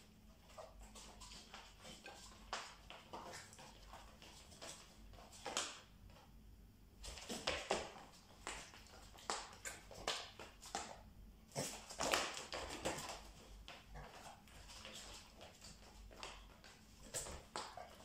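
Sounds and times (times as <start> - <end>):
dog paws tapping on wooden floor: 0.3 - 6.3, 7.0 - 18.0.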